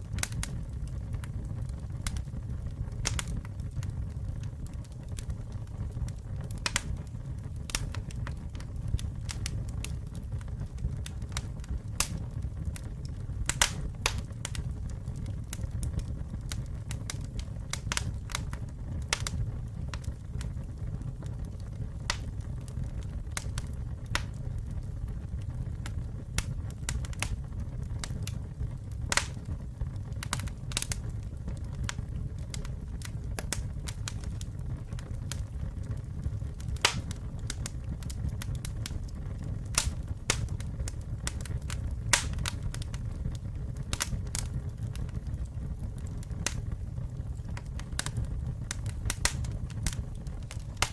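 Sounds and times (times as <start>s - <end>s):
burning wood crackling and popping: 0.0s - 50.9s
low rumble of flames: 0.0s - 50.9s.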